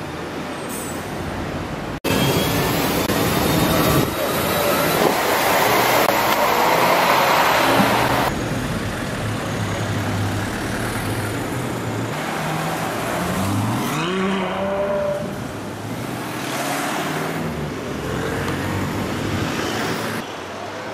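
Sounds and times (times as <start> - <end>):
traffic roar: 0.0 - 20.9.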